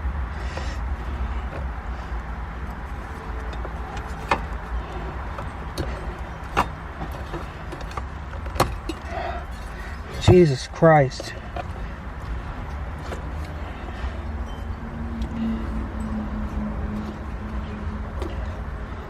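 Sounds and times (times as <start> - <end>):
hand tools clicking and clinking: 2.6 - 19.0.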